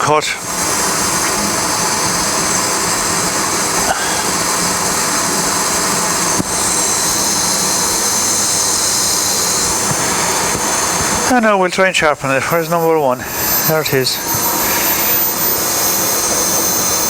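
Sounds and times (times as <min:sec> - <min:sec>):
grinding wheel hissing: 0:00.0 - 0:17.0.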